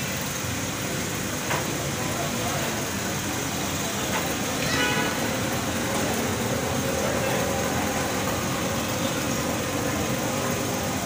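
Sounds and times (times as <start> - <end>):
electric fans humming: 0.0 - 11.0.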